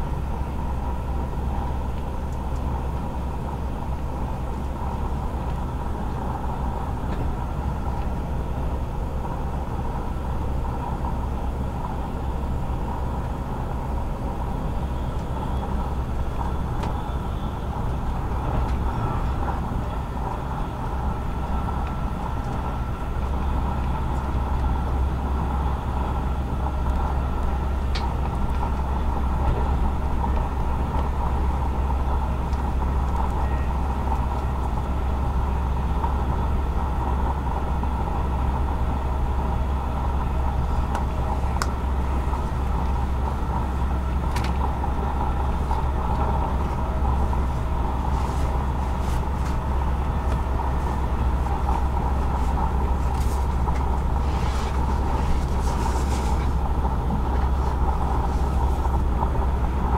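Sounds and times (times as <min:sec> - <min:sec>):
rumble of train wheels on rail: 0:00.0 - 0:59.9.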